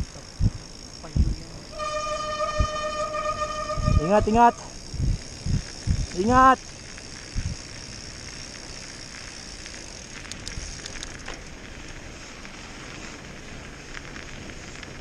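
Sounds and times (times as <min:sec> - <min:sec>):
bike tyres on snow: 0:00.0 - 0:15.0.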